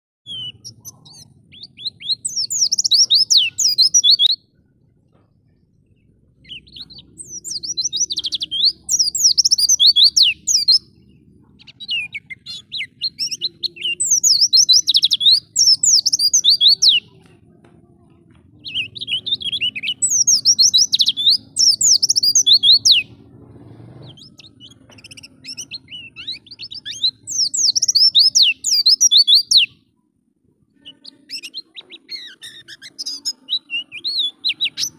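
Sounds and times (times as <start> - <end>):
bird high twittering song: 0.2 - 17.4, 18.5 - 29.9, 30.7 - 34.9.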